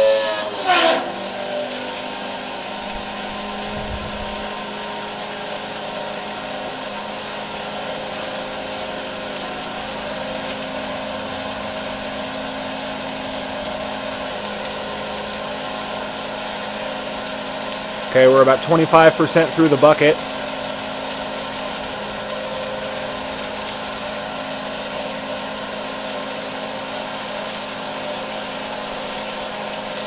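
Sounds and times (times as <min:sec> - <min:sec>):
small water pump running: 0:00.0 - 0:30.0
water spraying in a steel drum: 0:00.0 - 0:30.0.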